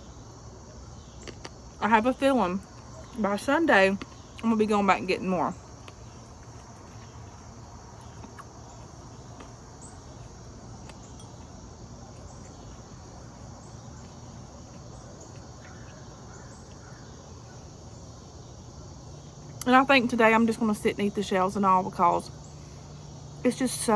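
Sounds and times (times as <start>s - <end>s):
insect chorus chirring: 0.0s - 23.9s.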